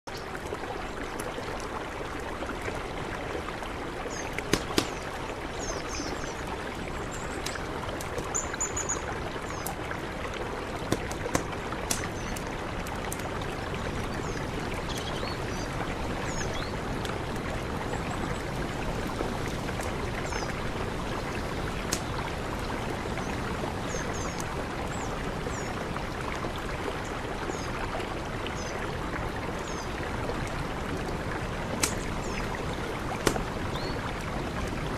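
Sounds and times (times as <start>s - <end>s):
mountain river rushing: 0.2s - 34.9s.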